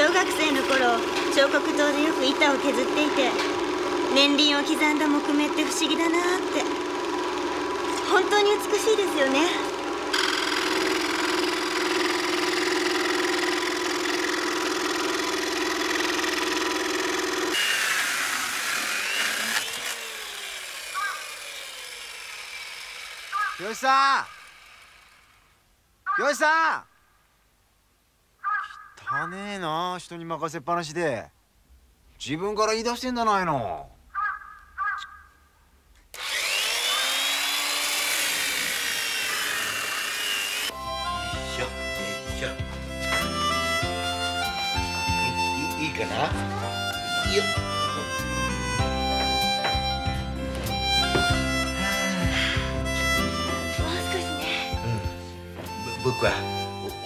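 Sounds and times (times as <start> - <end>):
band saw cutting wood: 0.0 - 25.6, 36.1 - 57.0.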